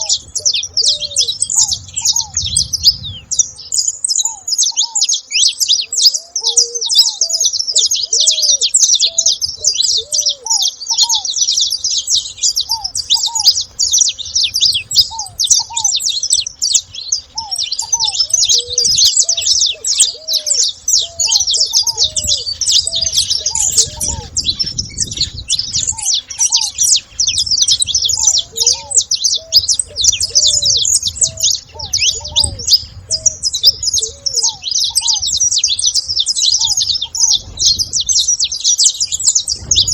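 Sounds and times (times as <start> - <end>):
finches chirping and chattering: 0.0 - 39.9.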